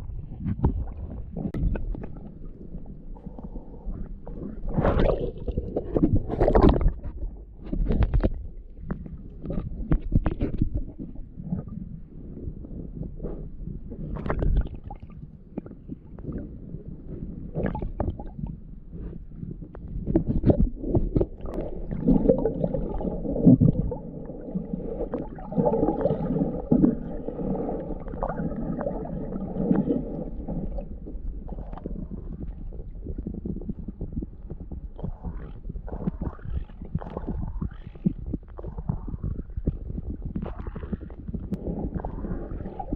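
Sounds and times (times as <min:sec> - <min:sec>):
low rumble: 0:00.0 - 0:42.9.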